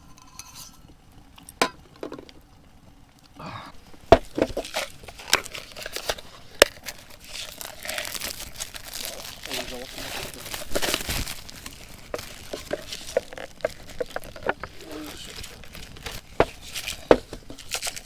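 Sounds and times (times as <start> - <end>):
crinkling and rustling: 3.2 - 18.0.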